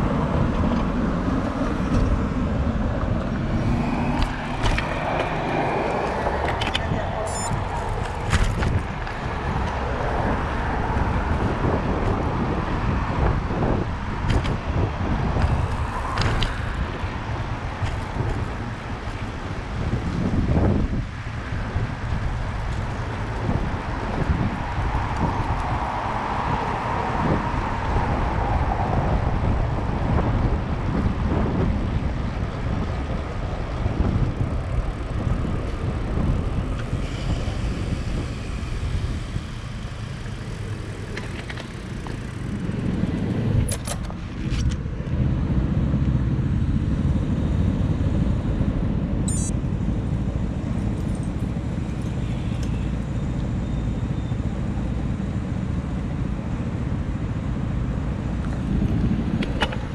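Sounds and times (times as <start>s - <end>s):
cars passing: 0.0s - 59.9s
wind rumble on microphone: 0.0s - 59.9s.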